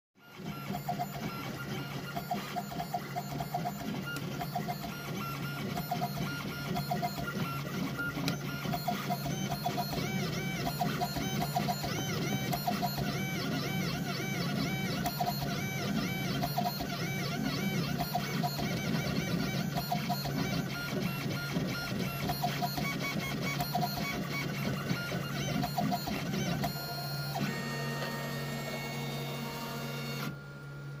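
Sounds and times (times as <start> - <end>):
motors whining: 0.4 - 30.4
steady motor hum: 0.6 - 31.0.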